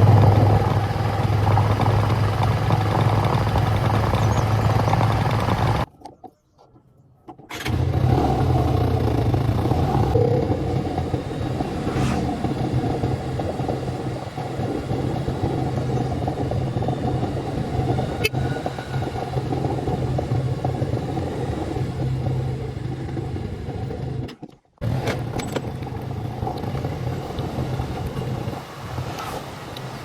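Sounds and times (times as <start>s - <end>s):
motorcycle engine running: 0.0s - 5.9s, 7.7s - 29.2s.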